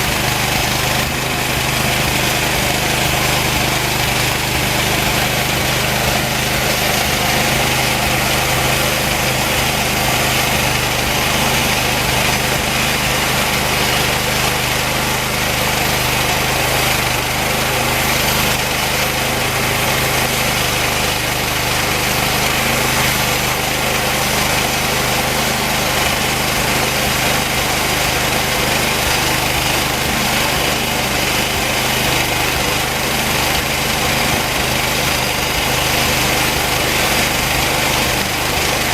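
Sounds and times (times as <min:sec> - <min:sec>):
band sawmill cutting wood: 0:00.0 - 0:38.9
engine humming: 0:00.0 - 0:38.9.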